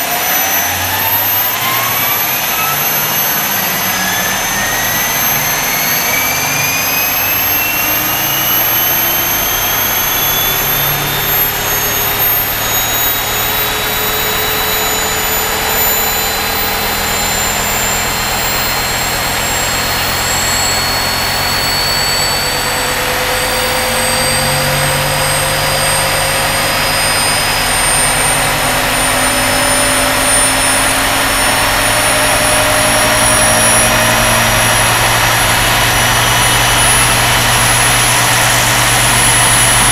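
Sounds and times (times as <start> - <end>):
model helicopter turbine whine: 0.0 - 39.9.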